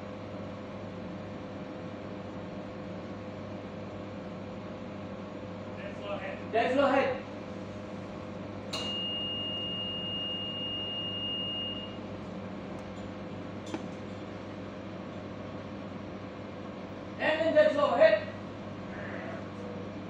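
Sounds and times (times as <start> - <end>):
low machinery hum: 0.0 - 20.0.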